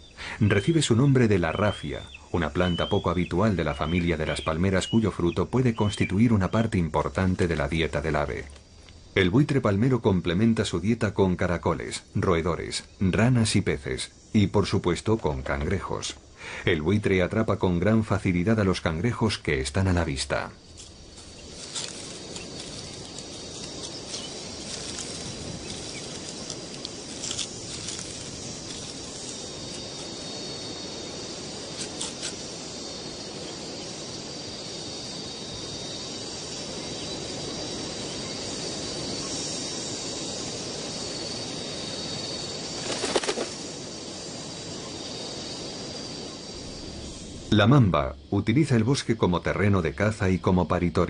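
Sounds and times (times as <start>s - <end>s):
even hiss: 0.0s - 51.0s.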